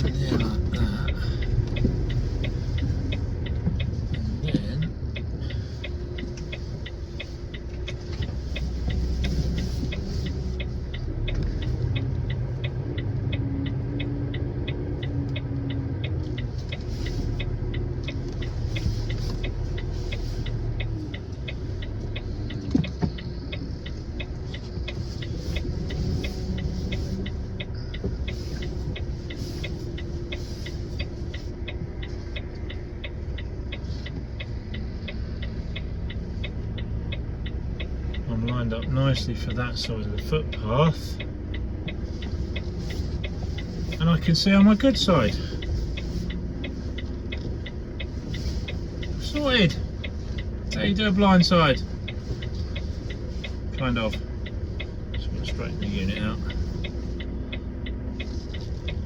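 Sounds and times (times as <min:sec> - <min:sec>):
fast even ticking: 0:00.0 - 0:59.0
lorry diesel engine running: 0:00.0 - 0:59.0.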